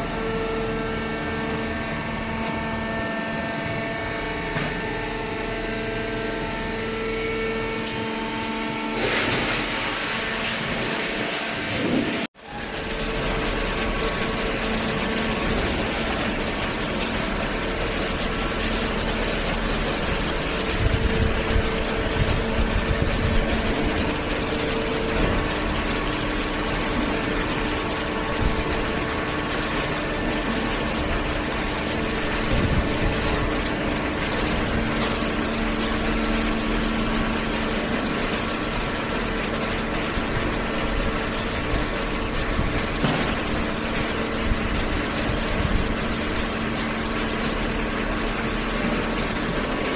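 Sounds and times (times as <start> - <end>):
baler machine hum: 0.0 - 49.9.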